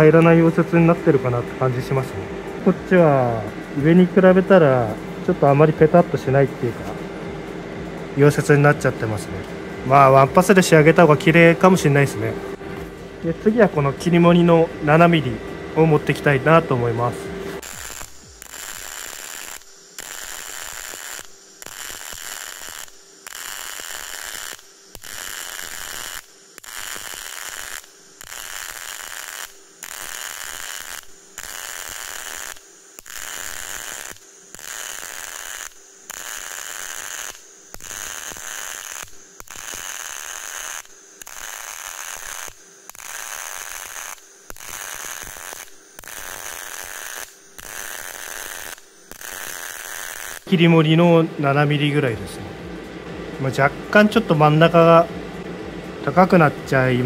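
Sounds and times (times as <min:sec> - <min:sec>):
welding arc crackling: 0:00.0 - 0:07.0, 0:07.8 - 0:52.0.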